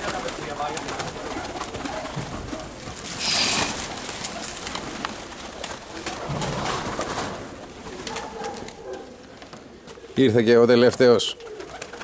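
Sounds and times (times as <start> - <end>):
pigeon wing flaps: 0.0 - 10.2, 11.4 - 12.0
pigeons cooing: 0.0 - 12.0.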